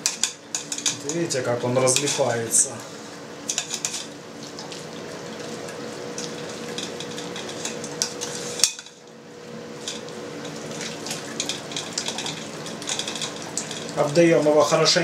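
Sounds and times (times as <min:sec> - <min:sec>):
boiling water pouring: 0:00.0 - 0:15.0.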